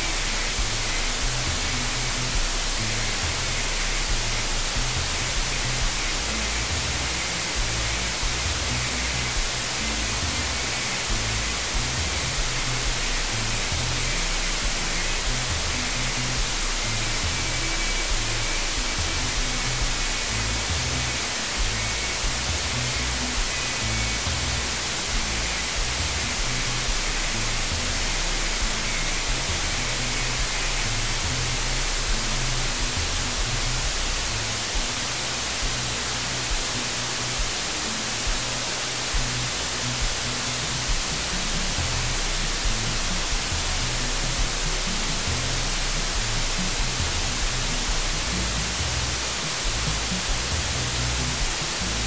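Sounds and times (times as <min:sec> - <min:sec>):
background music with low bass: 0:00.0 - 0:52.0
steady hiss: 0:00.0 - 0:52.0.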